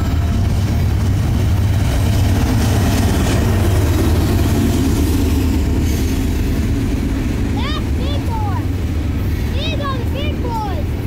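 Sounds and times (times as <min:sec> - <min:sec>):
diesel locomotive engine drone: 0:00.0 - 0:11.0
freight cars rolling: 0:00.0 - 0:11.0.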